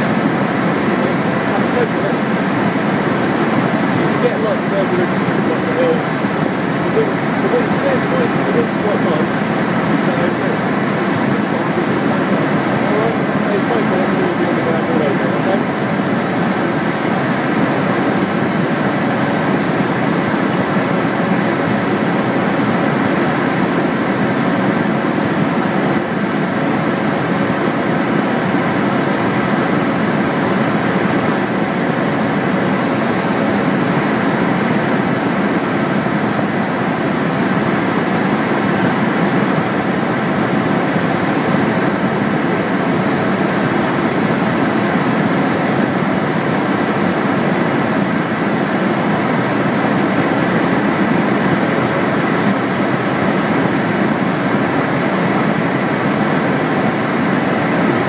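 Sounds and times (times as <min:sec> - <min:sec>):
aircraft engine and airflow drone: 0:00.0 - 0:58.0.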